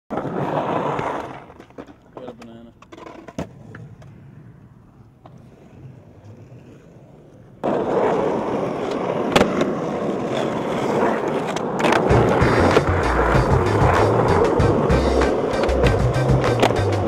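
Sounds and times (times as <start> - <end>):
skateboard landing clack: 0.1 - 7.0, 7.6 - 17.0
skateboard wheels rolling on concrete: 0.1 - 17.0.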